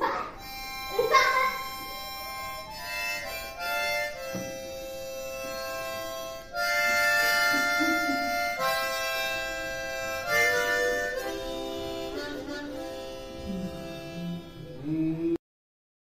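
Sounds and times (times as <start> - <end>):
harmonica playing chords: 0.0 - 15.2.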